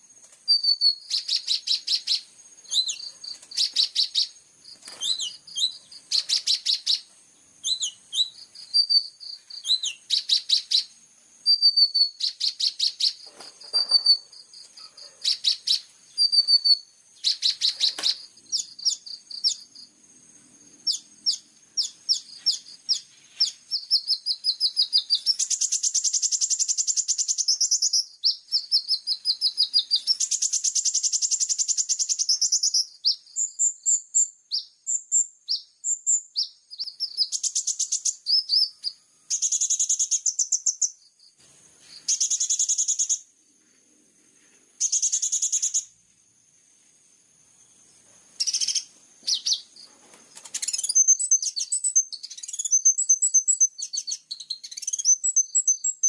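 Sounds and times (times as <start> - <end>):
songbird chirping and trilling: 0.0 - 46.0, 47.6 - 56.0.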